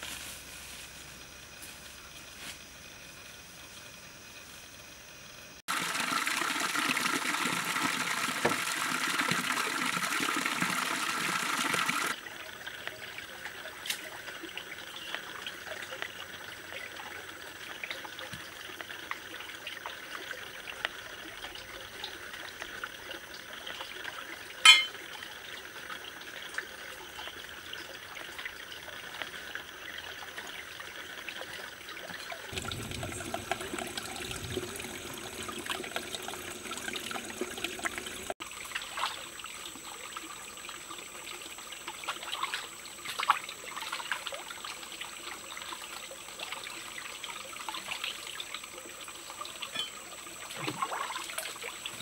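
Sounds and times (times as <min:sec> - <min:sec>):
stream water running over rocks: 0:05.6 - 0:52.0.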